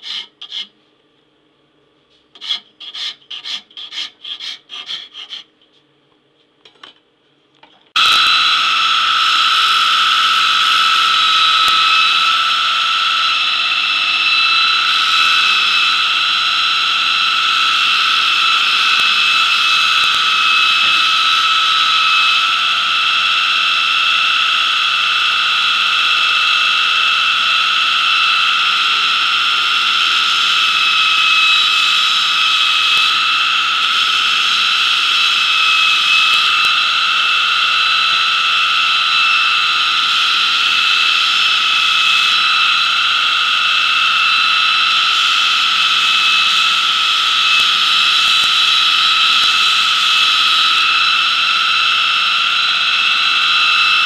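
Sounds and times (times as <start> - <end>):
grinder motor whining: 0.0 - 0.7, 8.0 - 54.0.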